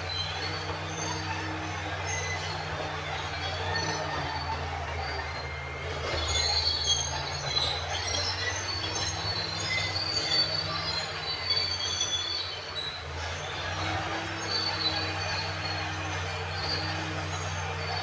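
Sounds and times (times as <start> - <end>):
diesel engine drone: 0.0 - 18.0
steel tracks squealing: 0.0 - 18.0.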